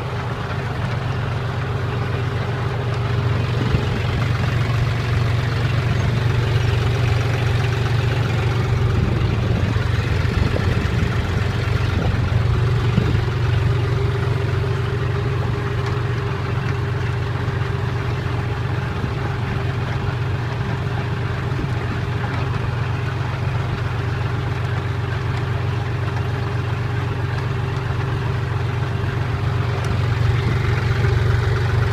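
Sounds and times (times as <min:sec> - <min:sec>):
tractor engine droning: 0:00.0 - 0:31.9.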